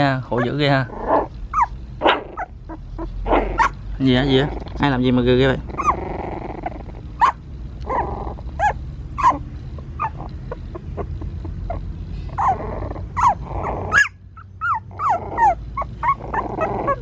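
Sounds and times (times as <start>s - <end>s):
puppies growling: 0.0s - 17.0s
puppies yelping and whimpering: 0.3s - 3.8s, 5.6s - 17.0s.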